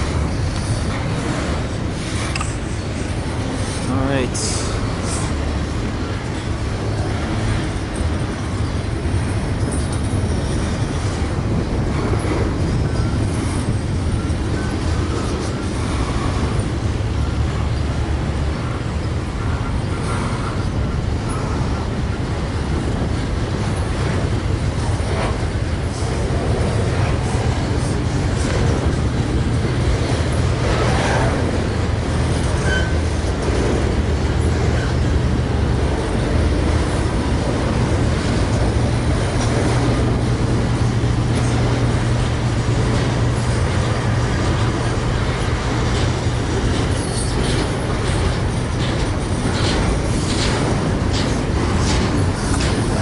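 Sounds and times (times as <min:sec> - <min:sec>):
diesel engine hum: 0:00.0 - 0:53.0
freight train rumbling past: 0:00.0 - 0:53.0
wheels clicking over rail joints: 0:00.0 - 0:53.0.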